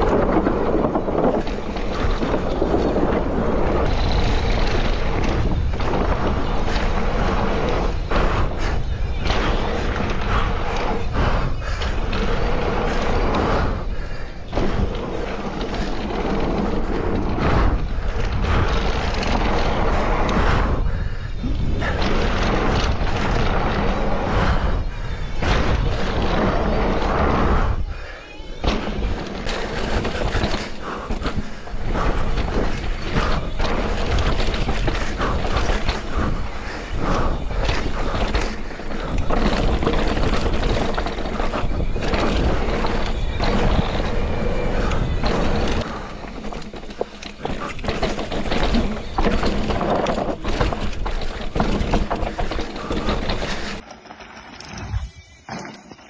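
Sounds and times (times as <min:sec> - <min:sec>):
wind buffeting microphone: 0:00.0 - 0:53.8
bike rattling: 0:00.0 - 0:56.0
tyres on dirt and rock: 0:00.0 - 0:56.0.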